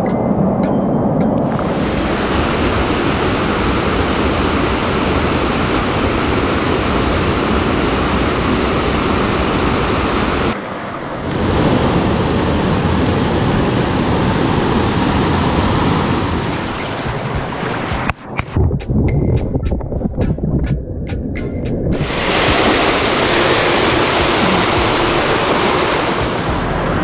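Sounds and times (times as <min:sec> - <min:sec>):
mountain stream rushing: 0:01.5 - 0:18.2, 0:21.9 - 0:27.0.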